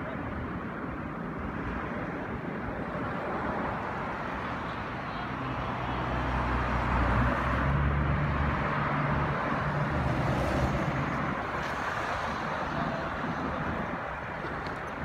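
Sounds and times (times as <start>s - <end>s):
steady traffic wash: 0.0s - 15.0s.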